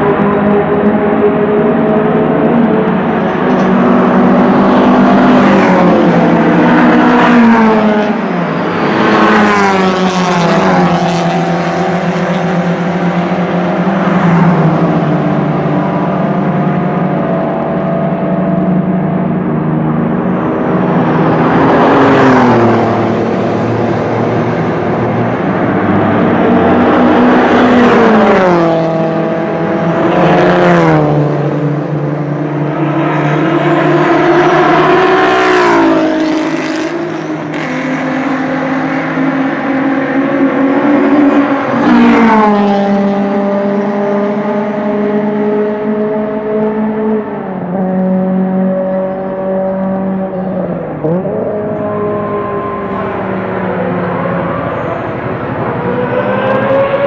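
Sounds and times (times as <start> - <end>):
sports cars passing at speed: 0.0 - 57.0.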